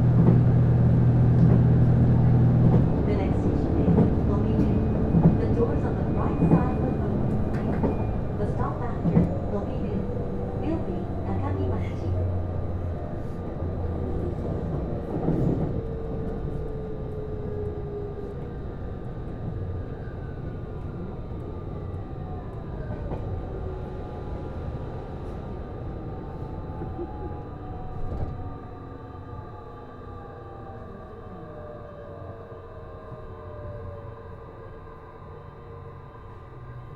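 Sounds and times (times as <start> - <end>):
wheels rumbling on rails: 0.0 - 32.2.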